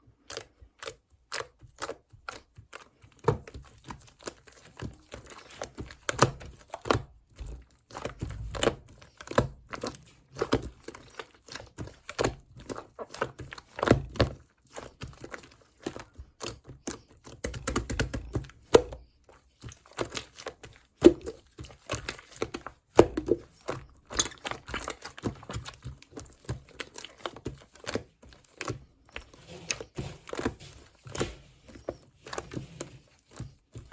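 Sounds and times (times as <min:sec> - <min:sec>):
slime squished by hand: 0:00.2 - 0:33.9.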